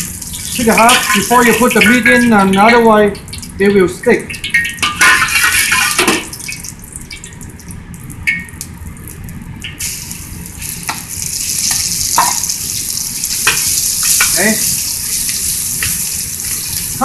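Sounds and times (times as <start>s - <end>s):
chicken sizzling in oil: 0.0s - 2.1s, 4.4s - 17.0s.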